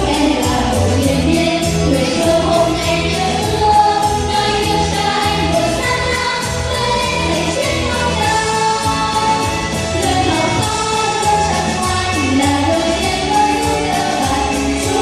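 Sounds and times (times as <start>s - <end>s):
backing music with steady beat: 0.0s - 15.0s
children's chorus singing in unison: 1.5s - 15.0s.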